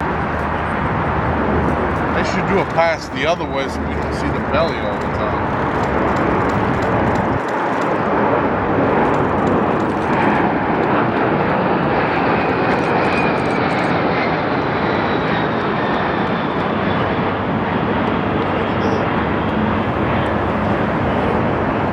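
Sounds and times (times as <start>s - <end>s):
jet aircraft roar: 0.0s - 21.9s.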